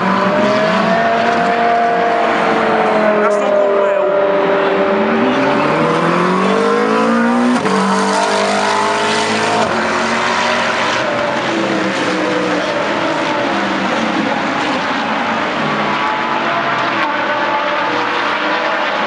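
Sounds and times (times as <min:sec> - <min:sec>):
cars passing on circuit: 0:00.0 - 0:19.0
race car engines at full throttle: 0:00.0 - 0:19.0.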